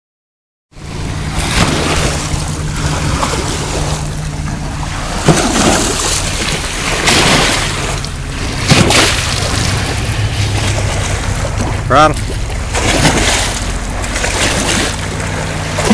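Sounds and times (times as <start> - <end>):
small waves washing onto shore: 0.8 - 15.9
wind buffeting microphone: 0.8 - 15.9.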